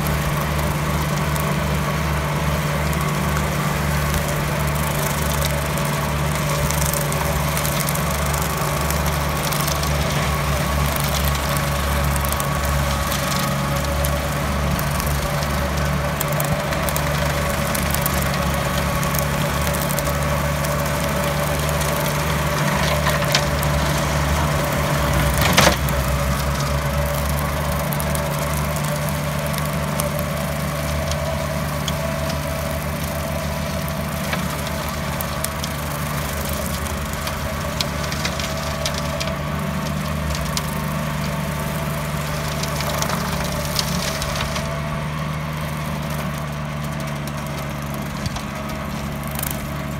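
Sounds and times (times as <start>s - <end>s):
rotary mower whine: 0.0s - 49.9s
tractor engine running: 0.0s - 49.9s.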